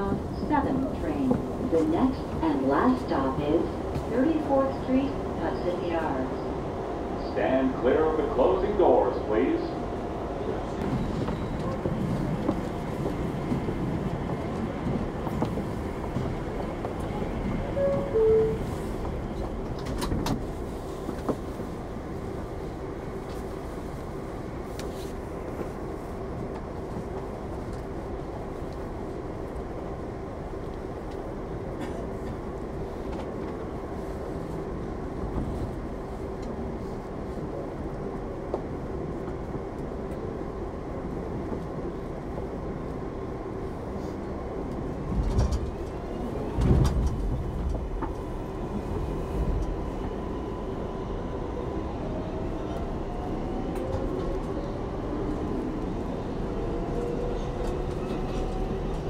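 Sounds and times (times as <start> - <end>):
train rail rumble: 0.0 - 59.0.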